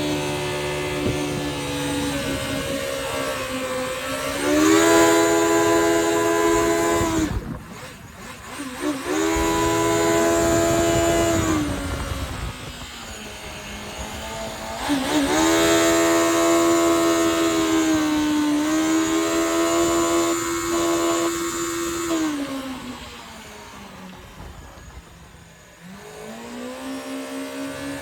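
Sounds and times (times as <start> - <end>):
jet ski engine revving: 0.0 - 28.0.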